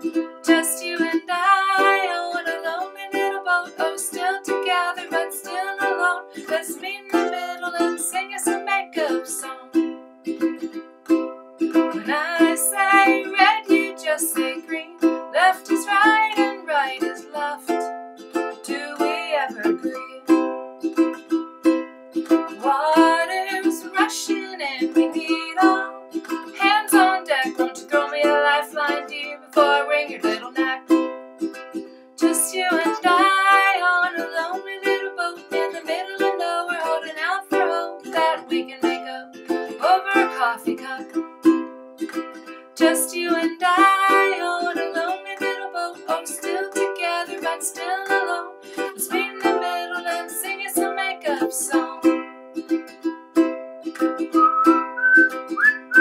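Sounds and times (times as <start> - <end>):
ukulele strumming: 0.0 - 56.0
woman singing: 0.4 - 9.9, 11.8 - 20.5, 22.4 - 31.1, 32.2 - 41.2, 42.8 - 52.3.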